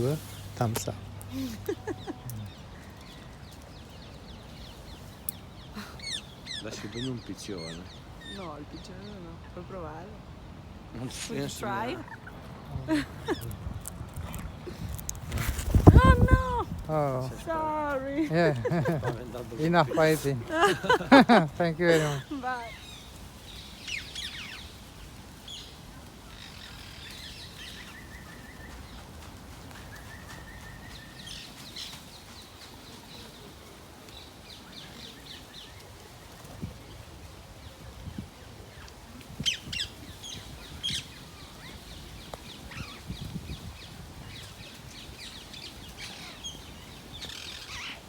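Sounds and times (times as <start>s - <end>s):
birds calling: 0.0s - 36.7s, 37.6s - 48.0s.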